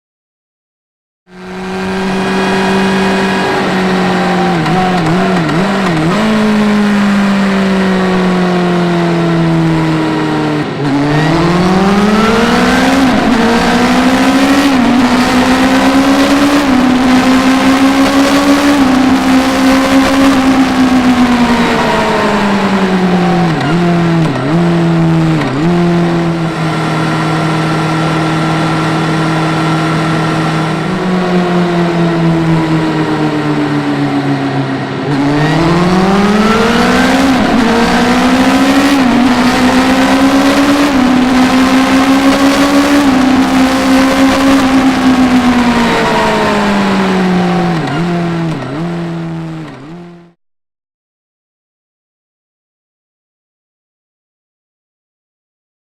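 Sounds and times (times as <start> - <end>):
motorcycle engine revving: 1.3 - 50.4.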